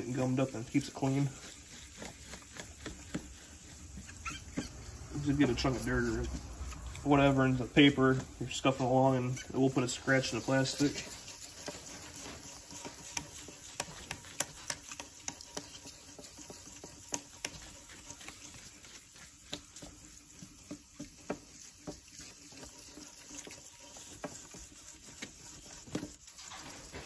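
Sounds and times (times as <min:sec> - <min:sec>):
wet sandpaper scrubbing plastic: 0:00.0 - 0:27.0.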